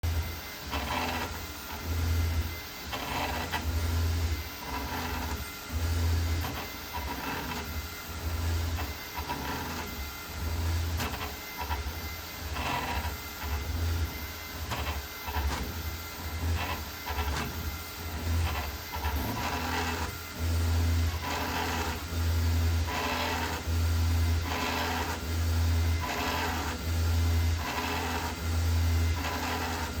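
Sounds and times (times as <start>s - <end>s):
printer grinding noise: 0.0s - 30.0s.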